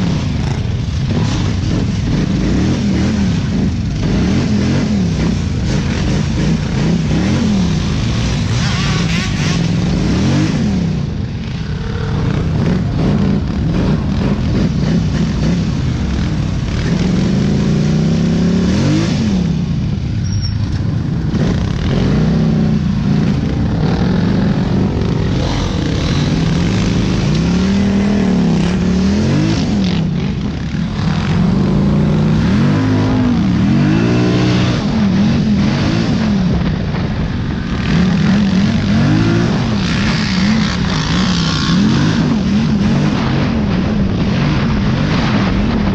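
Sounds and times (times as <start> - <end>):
dirt bike engine revving: 0.0 - 45.8
steady rushing noise: 0.0 - 45.9.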